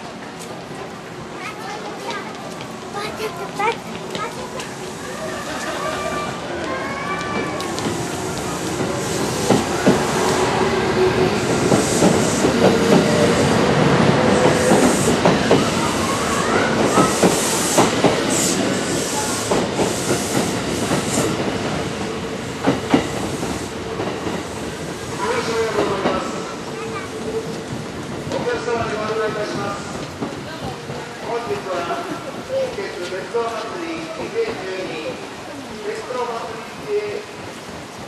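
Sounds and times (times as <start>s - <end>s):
train wheels clacking: 1.6s - 34.7s.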